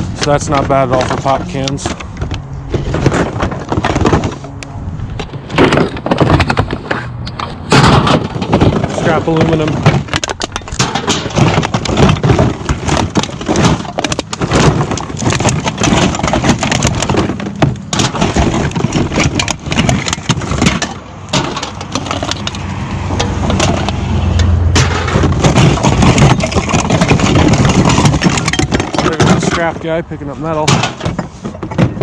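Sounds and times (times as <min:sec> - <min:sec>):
scrap metal clattering: 0:00.0 - 0:32.0.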